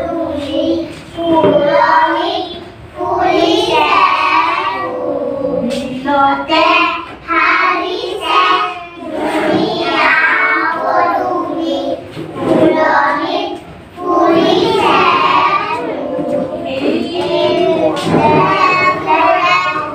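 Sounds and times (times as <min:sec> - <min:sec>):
children singing together: 0:00.0 - 0:19.9.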